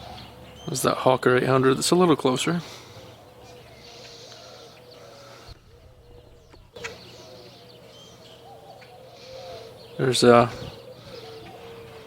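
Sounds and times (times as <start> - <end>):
dove cooing: 0.0 - 0.7, 2.0 - 12.0.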